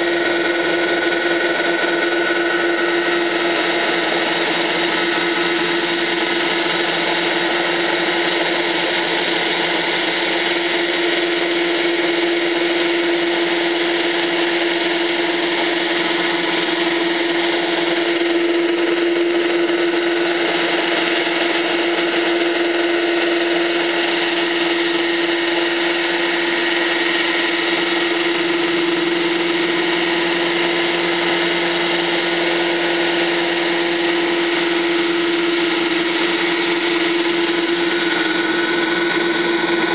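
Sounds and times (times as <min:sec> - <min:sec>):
helicopter hovering: 0:00.0 - 0:39.9.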